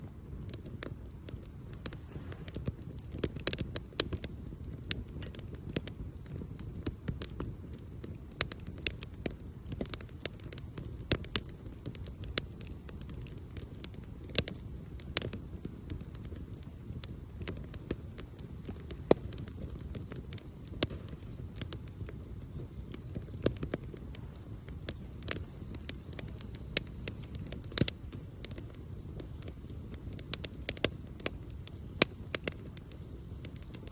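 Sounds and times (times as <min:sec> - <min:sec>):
burning wood popping: 0:00.0 - 0:33.9
campfire crackling: 0:00.0 - 0:33.9.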